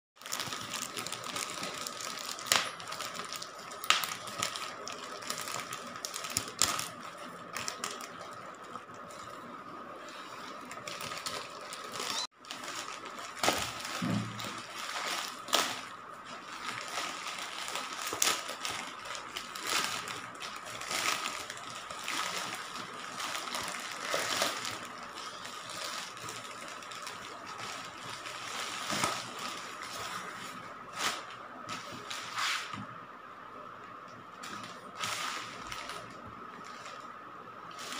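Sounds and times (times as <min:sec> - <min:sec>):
sharp plastic crackles: 0:00.2 - 0:09.4, 0:10.4 - 0:32.0
plastic mailer bag crinkling: 0:00.2 - 0:32.3, 0:34.4 - 0:37.1.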